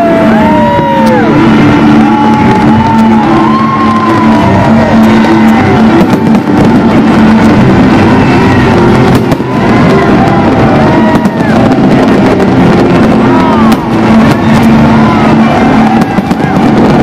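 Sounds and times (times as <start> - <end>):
firework bangs and crackles: 0.0 - 17.0
firework whistles: 0.0 - 17.0
loud music: 0.0 - 17.0.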